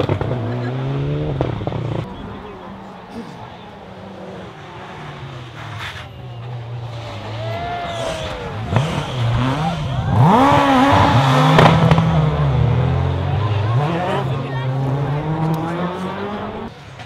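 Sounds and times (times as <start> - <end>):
rally car engine revving: 0.0 - 16.8
exhaust bangs: 0.0 - 17.0.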